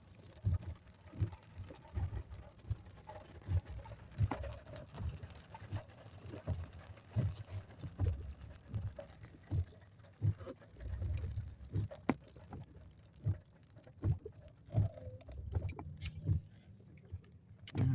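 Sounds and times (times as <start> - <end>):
rain patter on car: 0.0 - 17.9.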